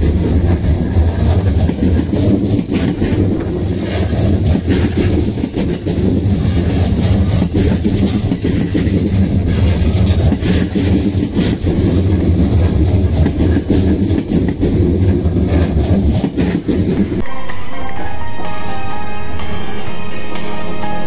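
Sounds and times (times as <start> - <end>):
wheels clicking and knocking: 0.0 - 17.2
electric train rumbling on track: 0.0 - 21.0.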